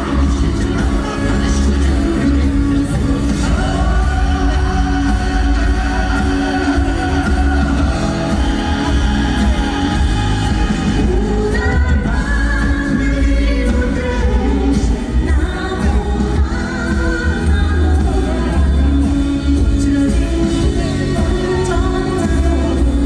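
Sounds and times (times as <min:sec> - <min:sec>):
live band with heavy bass: 0:00.0 - 0:23.0
man singing long held notes: 0:00.0 - 0:23.0.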